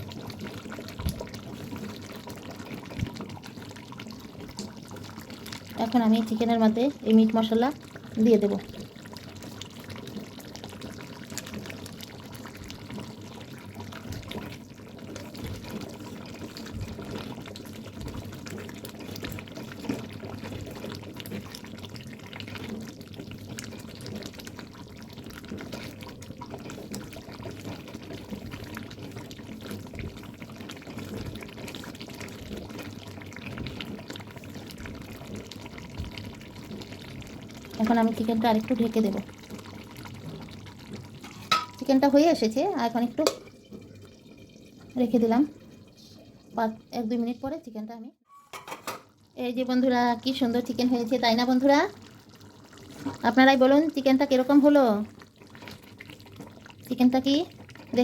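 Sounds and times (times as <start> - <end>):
curry bubbling in a pan: 0.0 - 58.0.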